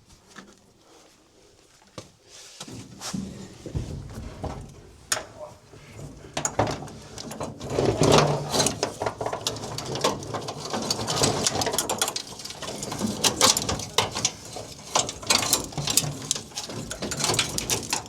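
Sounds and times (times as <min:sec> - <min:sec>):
wires rustling and rattling: 0:02.7 - 0:18.0.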